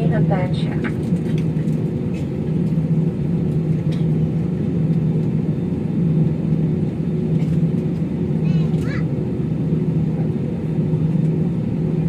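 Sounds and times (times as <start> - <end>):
jet engines heard inside cabin: 0.0 - 12.0.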